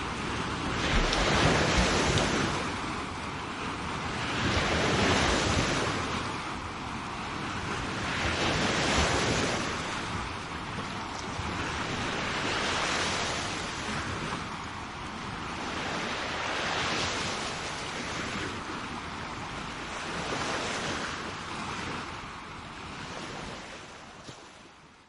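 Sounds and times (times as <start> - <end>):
sea waves washing onto shore: 0.0 - 24.8
wind noise on microphone: 0.0 - 25.0.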